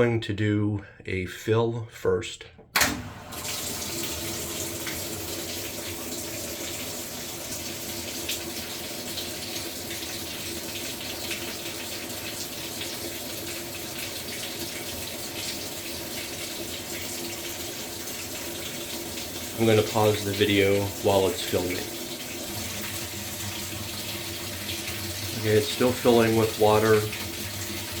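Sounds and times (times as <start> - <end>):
water pouring into washer tub: 3.0 - 28.0.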